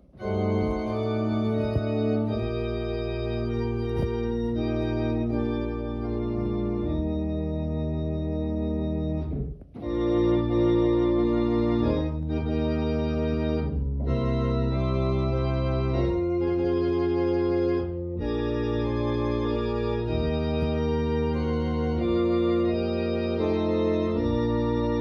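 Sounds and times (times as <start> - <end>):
organ playing slow chords: 0.0 - 25.0.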